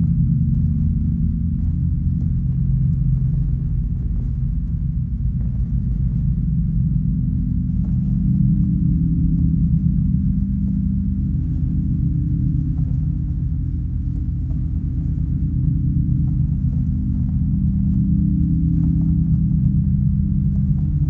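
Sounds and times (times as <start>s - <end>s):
dark ambient drone music: 0.0s - 21.0s.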